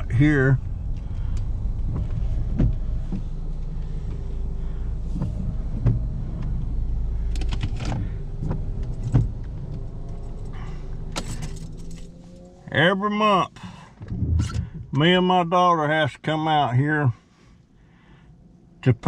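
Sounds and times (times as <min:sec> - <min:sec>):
car engine rumble from inside: 0:00.0 - 0:19.0.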